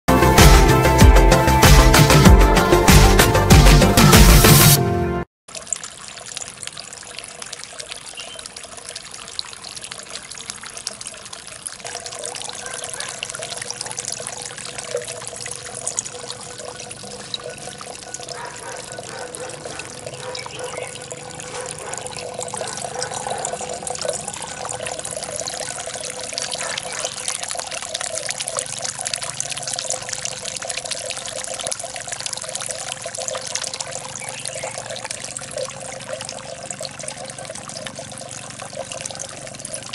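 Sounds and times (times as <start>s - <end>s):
fountain water pouring into pond: 5.5s - 39.9s.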